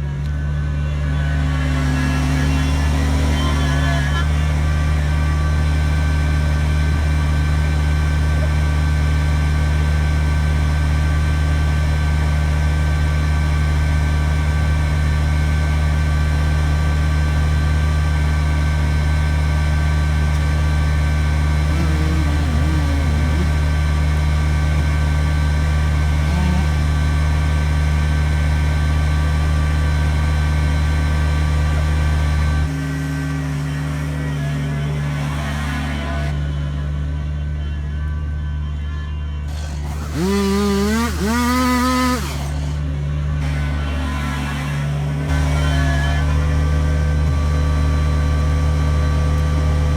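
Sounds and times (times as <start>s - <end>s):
diesel tractor engine running: 0.0s - 49.9s.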